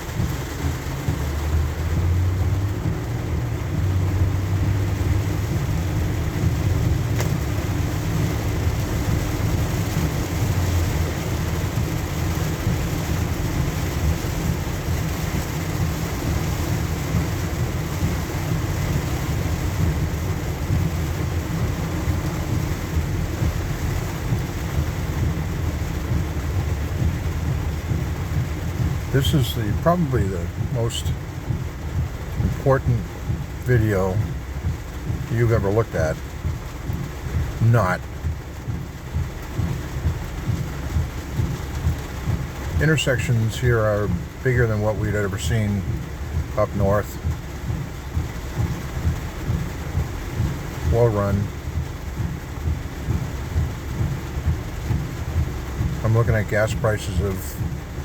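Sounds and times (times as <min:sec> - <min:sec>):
engine and road rumble: 0:00.0 - 0:58.0
tyres hissing on wet pavement: 0:00.0 - 0:58.0.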